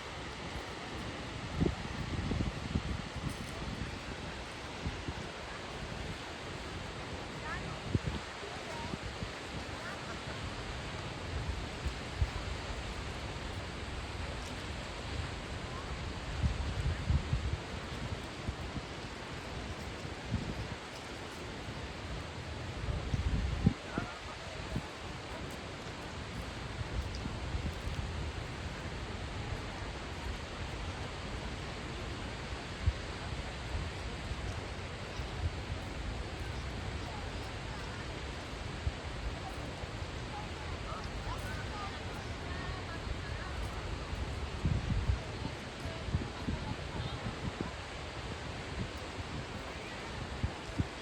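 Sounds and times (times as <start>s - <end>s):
wind buffeting microphone: 0.0s - 25.4s, 26.0s - 51.0s
steady rushing outdoor noise: 0.0s - 51.0s
wind hiss: 0.0s - 51.0s.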